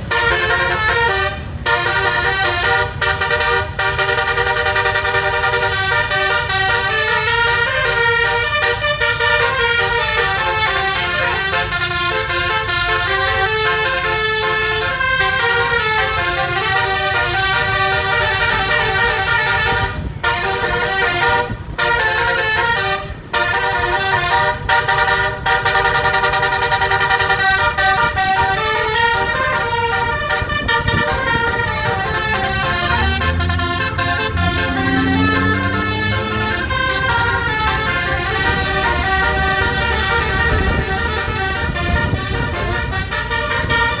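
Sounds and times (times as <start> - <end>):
air horn playing a tune: 0.0 - 44.0.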